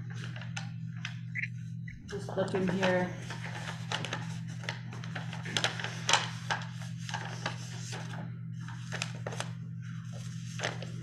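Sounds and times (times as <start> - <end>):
paper pages rustling: 0.0 - 1.6, 2.2 - 11.0
low electrical hum: 0.0 - 11.0.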